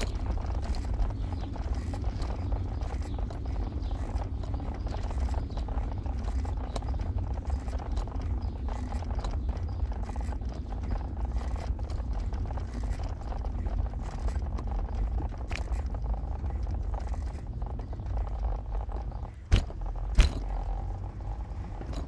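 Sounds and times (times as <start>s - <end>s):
light clicks and rattles: 0.0s - 22.0s
vehicle rumbling: 0.0s - 22.0s.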